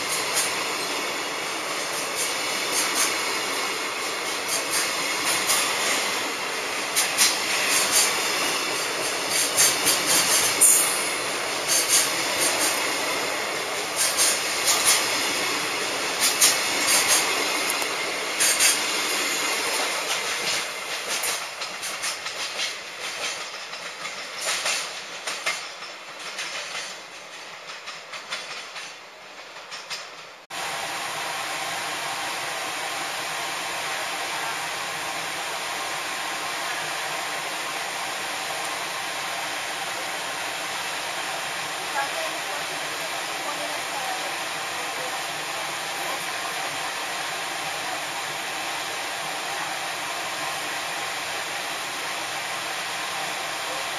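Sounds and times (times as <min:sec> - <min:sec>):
freight train rolling past: 0:00.0 - 0:53.9.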